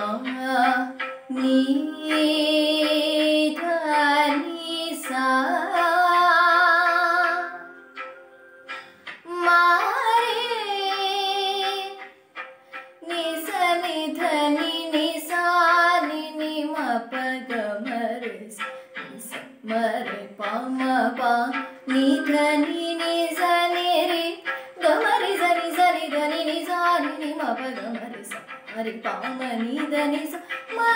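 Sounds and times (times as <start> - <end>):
girl singing: 0.0 - 7.7, 9.2 - 12.1, 13.0 - 30.9.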